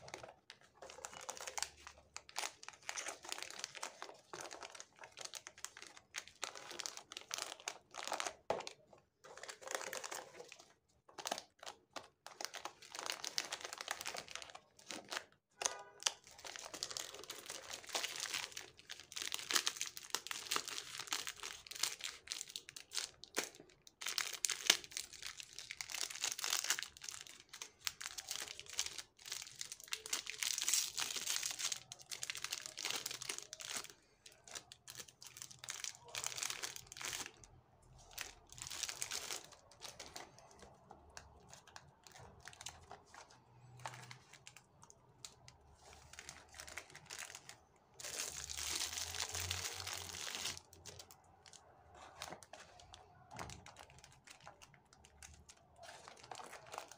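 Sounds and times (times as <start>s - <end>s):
crinkly packaging rustling: 0.0s - 56.9s.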